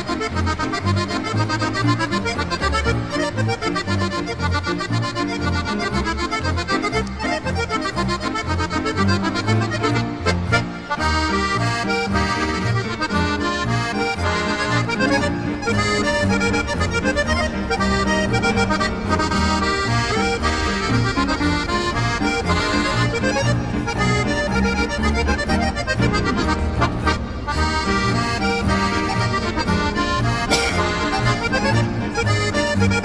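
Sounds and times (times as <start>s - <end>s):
accordion folk music: 0.0s - 33.0s.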